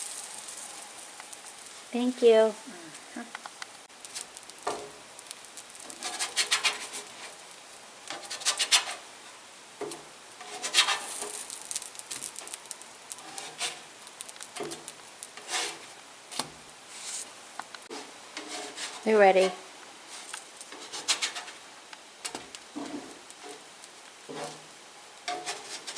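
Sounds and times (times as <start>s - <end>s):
spatula scraping griddle: 4.0s - 25.9s.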